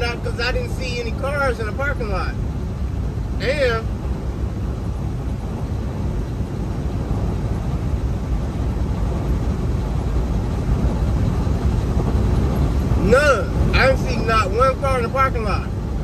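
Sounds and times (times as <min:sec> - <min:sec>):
truck engine low rumble: 0:00.0 - 0:16.0
tyres on the road: 0:00.0 - 0:16.0.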